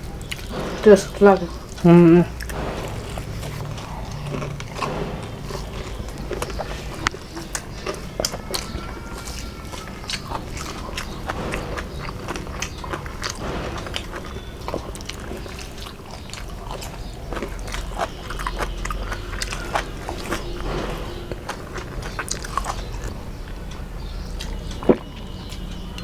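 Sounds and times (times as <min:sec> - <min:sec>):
person chewing soft food: 0:00.0 - 0:26.0.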